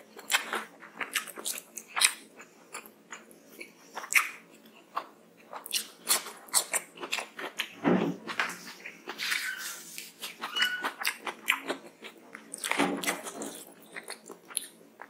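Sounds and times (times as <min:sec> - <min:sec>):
wet chewing: 0:00.2 - 0:07.7, 0:08.7 - 0:14.8.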